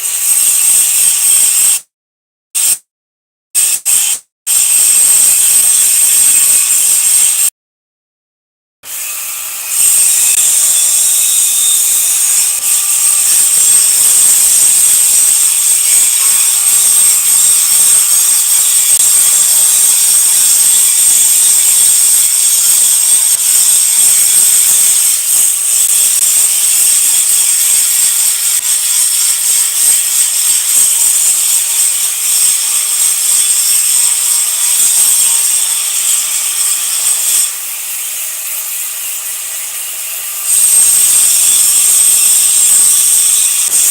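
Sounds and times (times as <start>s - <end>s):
welding arc crackling and hissing: 0.0s - 1.8s, 2.6s - 2.8s, 3.6s - 7.5s, 8.9s - 43.9s.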